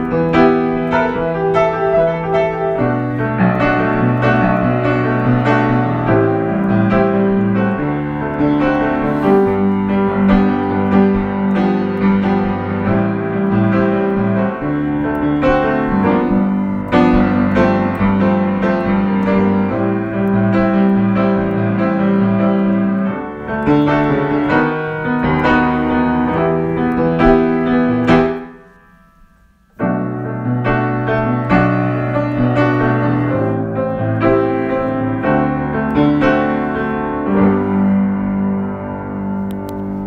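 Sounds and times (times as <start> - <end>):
solo piano playing chords: 0.0 - 40.0.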